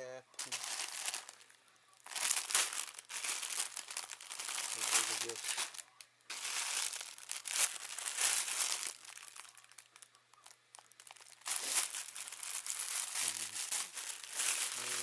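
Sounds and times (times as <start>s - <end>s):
plastic packaging crinkling: 0.4s - 15.0s.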